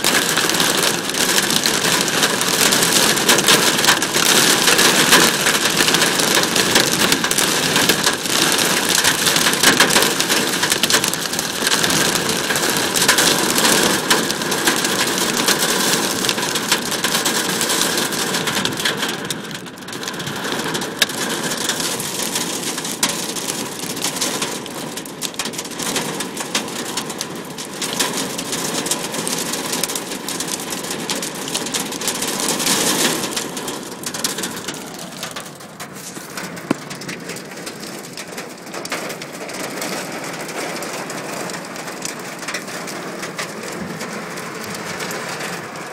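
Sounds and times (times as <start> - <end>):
hail and rain on sheet metal: 0.0 - 45.9.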